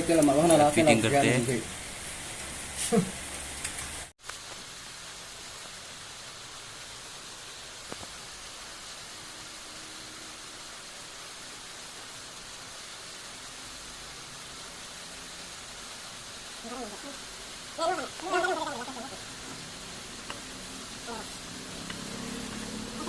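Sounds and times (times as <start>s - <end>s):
steady static hiss: 0.0s - 23.0s.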